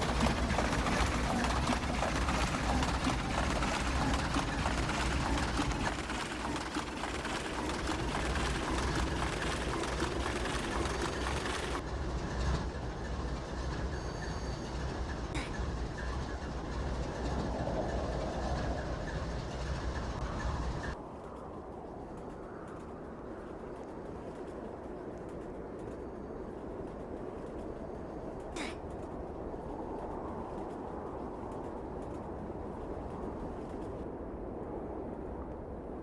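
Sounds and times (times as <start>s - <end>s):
train rumble and rail noise: 0.0s - 36.0s.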